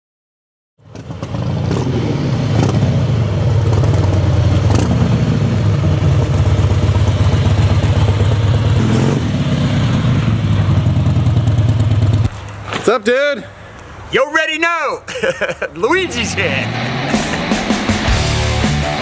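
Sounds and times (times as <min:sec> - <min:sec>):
engine rumbling: 0:00.8 - 0:12.9, 0:15.1 - 0:19.0.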